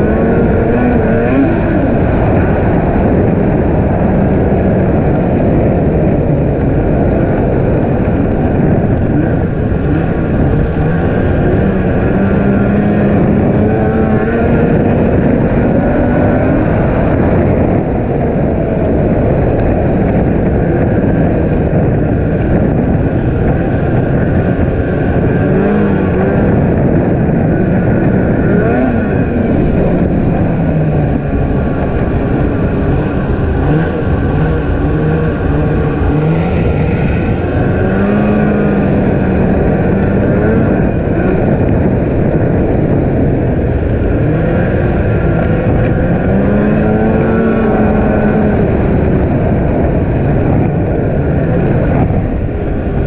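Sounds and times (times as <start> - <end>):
rush of wind and track noise: 0.0 - 53.0
snowmobile engine revving: 0.0 - 53.0.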